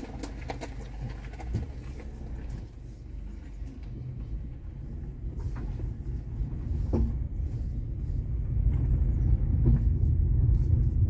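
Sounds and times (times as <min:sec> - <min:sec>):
car driving on gravel road: 0:00.0 - 0:11.0
tyre and road noise: 0:00.0 - 0:11.0.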